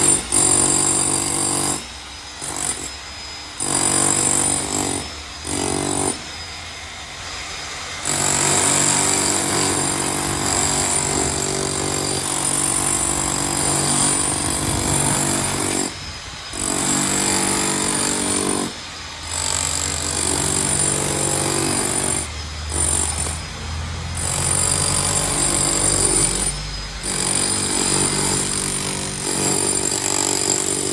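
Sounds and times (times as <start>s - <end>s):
jackhammer on masonry: 0.0s - 30.9s.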